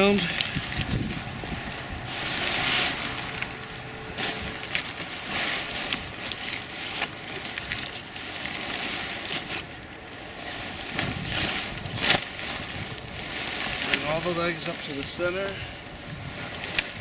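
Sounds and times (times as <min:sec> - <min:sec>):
tent fabric rustling and crinkling: 0:00.0 - 0:17.0.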